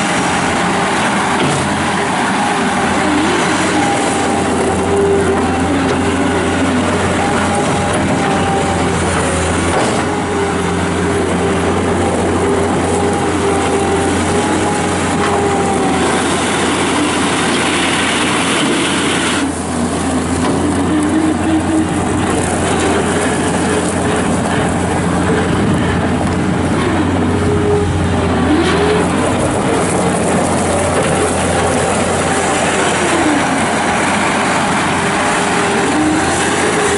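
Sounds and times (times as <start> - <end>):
loader diesel engine and hydraulics: 0.0 - 36.9.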